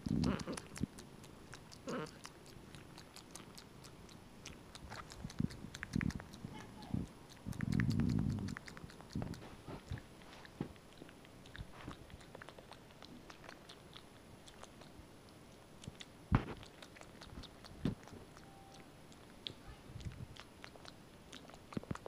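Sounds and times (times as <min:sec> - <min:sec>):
monkey lip smacks and clicks: 0:00.0 - 0:22.0.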